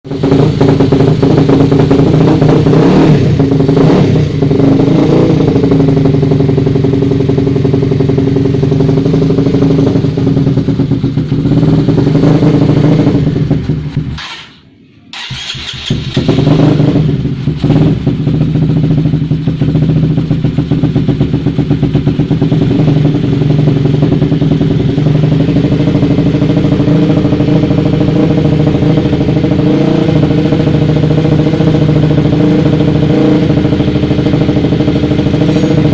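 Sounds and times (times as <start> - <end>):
motorcycle engine idling: 0.1 - 14.5, 15.1 - 35.9.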